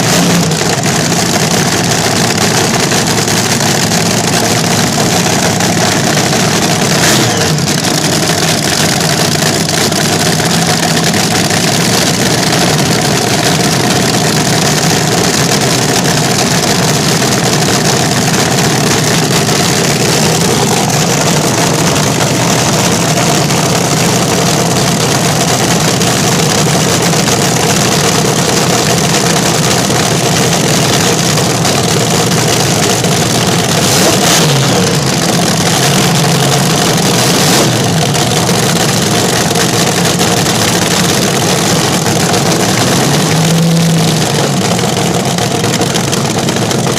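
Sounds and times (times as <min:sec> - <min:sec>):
dragster engine idling loudly: 0:00.0 - 0:46.9.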